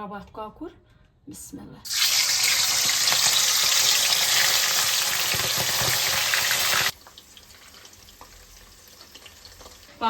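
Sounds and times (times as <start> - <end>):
chicken frying in hot oil: 1.9 - 10.0.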